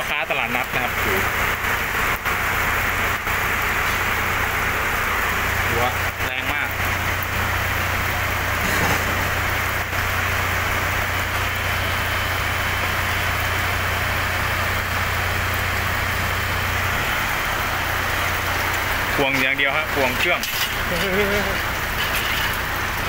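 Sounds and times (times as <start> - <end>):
heavy rain on pavement: 0.0 - 23.0
vehicle engine idling: 0.0 - 23.0.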